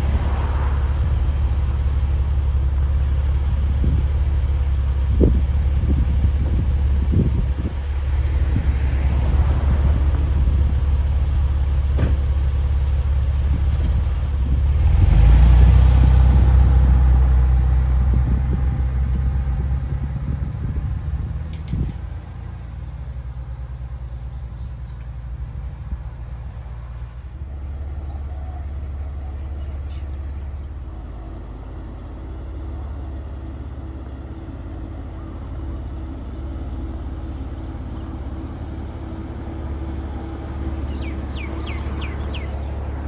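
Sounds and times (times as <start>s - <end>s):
car engine running while driving: 0.0s - 43.0s.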